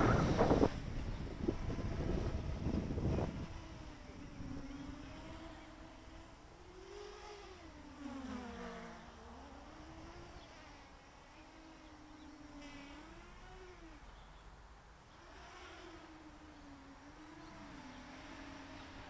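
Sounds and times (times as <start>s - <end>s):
quadcopter propellers buzzing: 0.0s - 19.0s.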